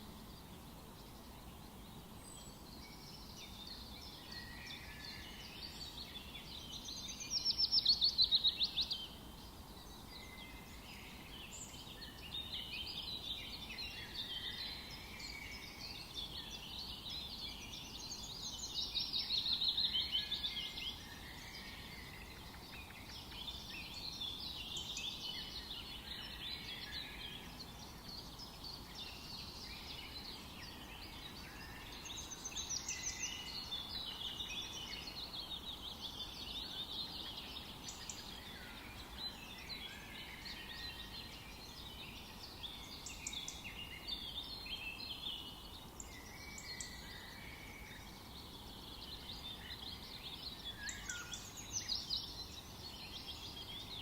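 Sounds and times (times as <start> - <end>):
faint background hiss: 0.0 - 54.0
songbirds singing and chirping: 0.0 - 54.0.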